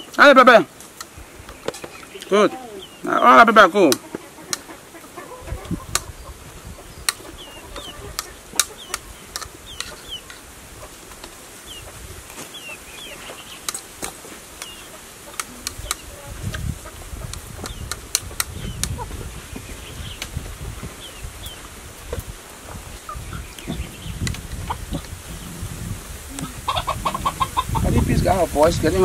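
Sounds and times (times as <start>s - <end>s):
chickens chirping: 0.0s - 29.0s.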